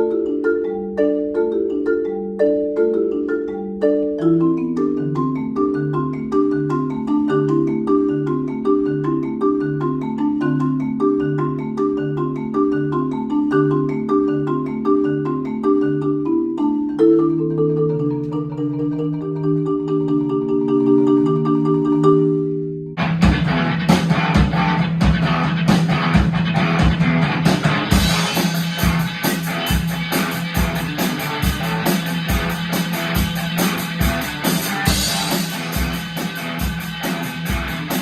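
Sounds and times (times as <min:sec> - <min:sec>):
marimba playing: 0:00.0 - 0:38.0.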